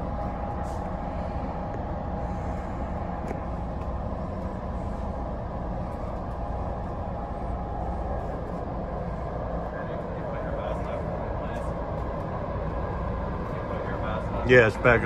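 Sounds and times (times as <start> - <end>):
constant hum: 0.0 - 15.0
train coach low rumble: 0.0 - 15.0.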